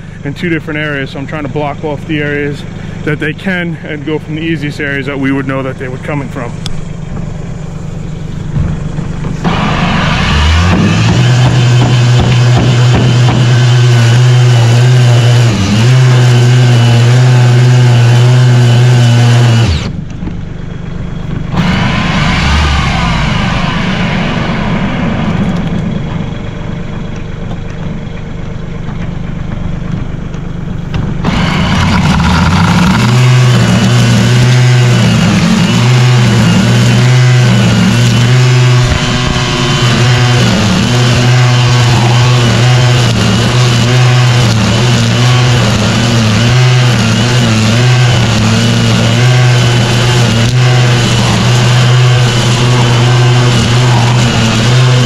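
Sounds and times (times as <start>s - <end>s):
tractor diesel engine humming: 0.0s - 55.0s.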